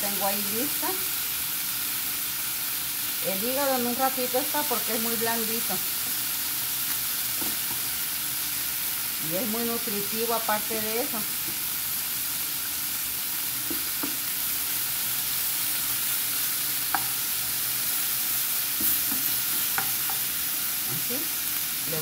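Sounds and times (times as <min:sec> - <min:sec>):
liver sizzling in a frying pan: 0:00.0 - 0:22.0.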